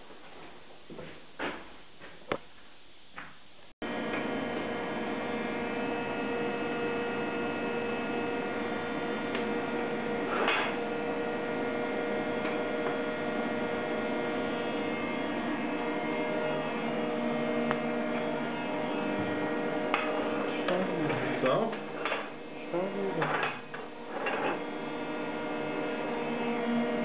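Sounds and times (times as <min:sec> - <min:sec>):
welding arc humming: 0:03.8 - 0:27.0.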